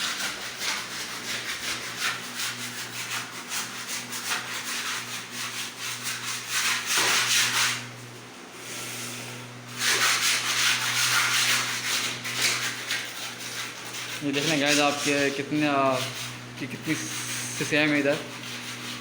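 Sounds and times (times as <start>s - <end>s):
hand sanding plaster wall: 0.0s - 19.0s.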